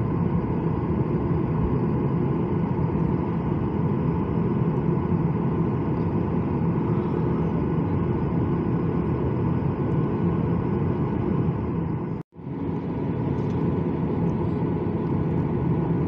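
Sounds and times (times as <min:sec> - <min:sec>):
jet engines humming: 0:00.0 - 0:16.0.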